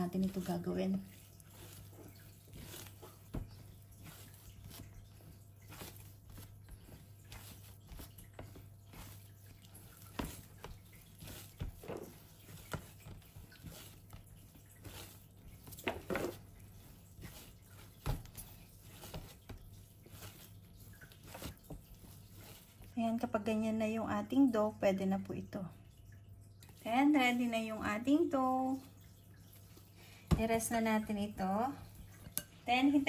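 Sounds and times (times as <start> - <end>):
dough squelching and slapping: 0.0 - 33.0
low steady hum: 0.0 - 33.0.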